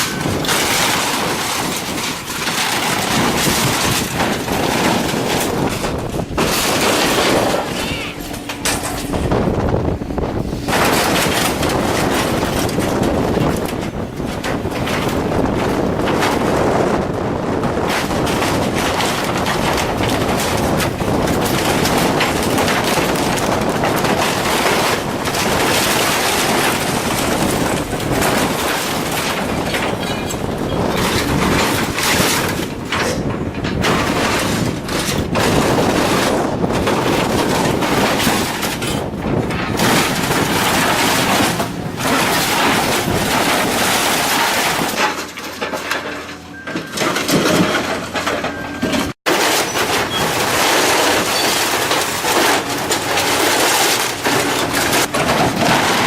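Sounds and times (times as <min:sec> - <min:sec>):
machinery grinding scrap metal: 0:00.0 - 0:56.0
metal cracking and crashing: 0:00.0 - 0:56.0.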